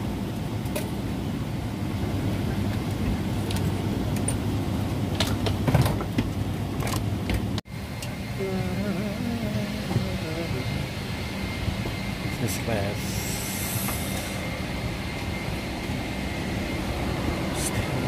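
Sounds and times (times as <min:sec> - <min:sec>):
airliner cabin hum: 0:00.0 - 0:18.0.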